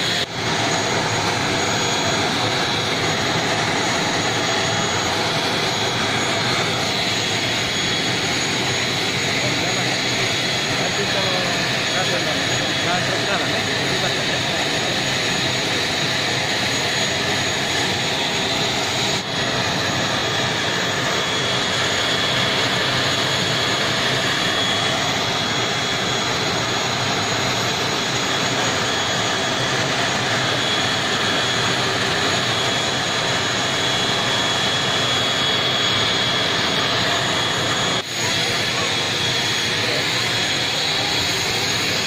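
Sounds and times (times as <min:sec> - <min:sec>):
high steady whine: 0:00.0 - 0:42.0
turboprop engine running: 0:00.0 - 0:42.0.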